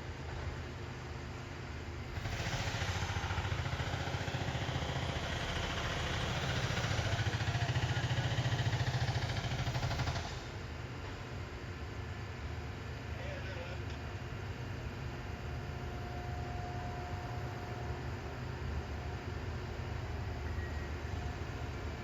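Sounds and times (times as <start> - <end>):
diesel locomotive engines: 0.0 - 22.0.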